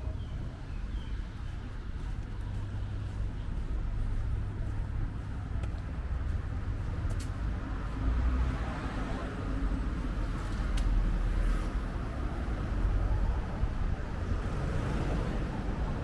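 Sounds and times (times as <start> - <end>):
rumble of passing cars: 0.0 - 16.0.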